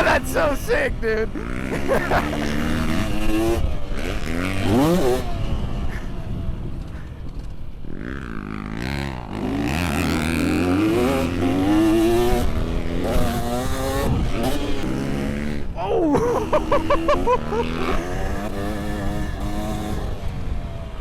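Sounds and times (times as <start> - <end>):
dirt bike engine revving: 0.0 - 7.2, 7.8 - 21.0.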